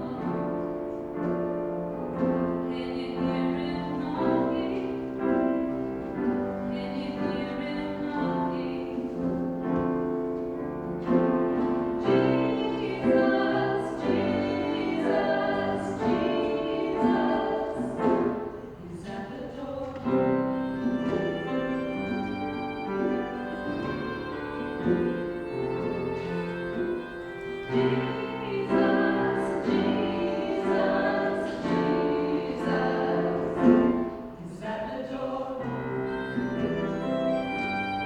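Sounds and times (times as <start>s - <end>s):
piano accompaniment: 0.0s - 38.0s
gospel choir singing: 2.1s - 38.0s.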